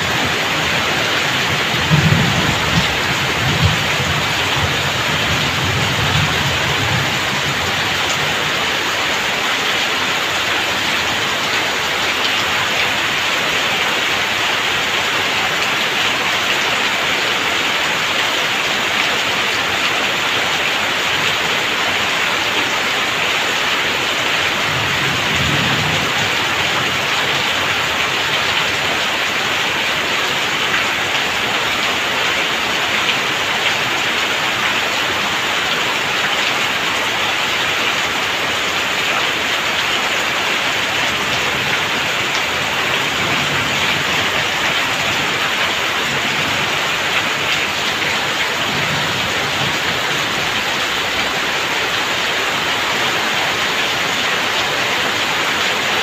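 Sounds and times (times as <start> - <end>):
heavy rain on tiled roof: 0.0 - 56.0
water pouring off eaves: 0.0 - 56.0.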